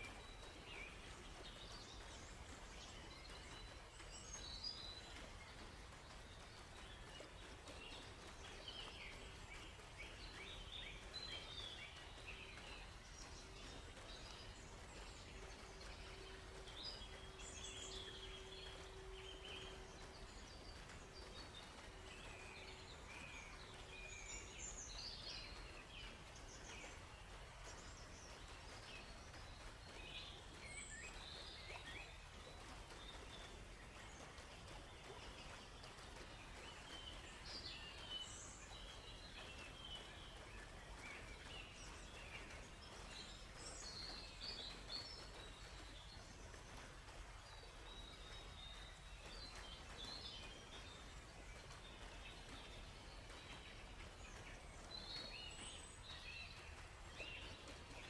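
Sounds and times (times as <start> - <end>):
low background noise: 0.0 - 58.0
small birds chirping: 0.0 - 58.0.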